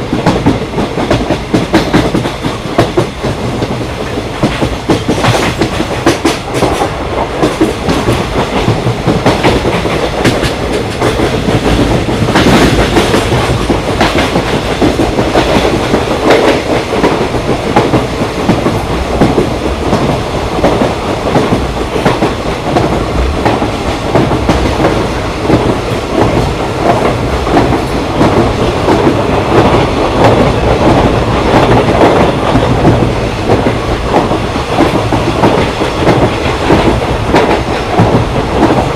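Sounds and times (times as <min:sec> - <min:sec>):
train rumbling along track: 0:00.0 - 0:38.9
train wheels clattering over rails: 0:00.0 - 0:38.9.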